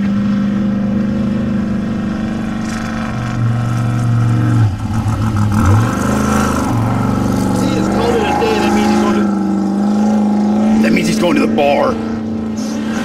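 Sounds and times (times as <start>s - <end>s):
race vehicle engine running: 0.0s - 13.0s.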